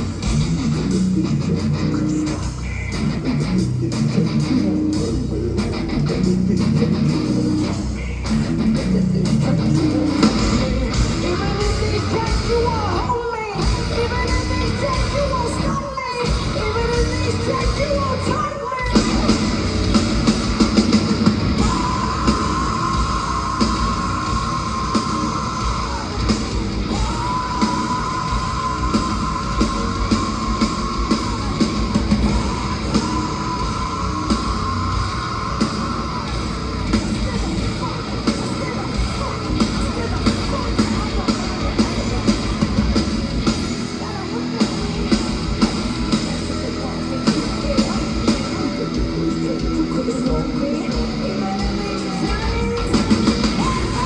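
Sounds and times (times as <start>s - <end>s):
heavy metal music: 0.0s - 54.0s
person singing: 0.7s - 20.0s, 20.8s - 54.0s.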